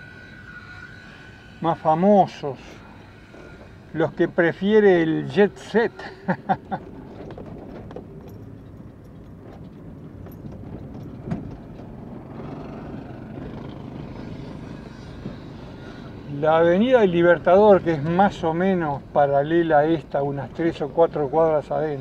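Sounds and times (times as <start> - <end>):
van engine and tyre noise: 0.0 - 22.0.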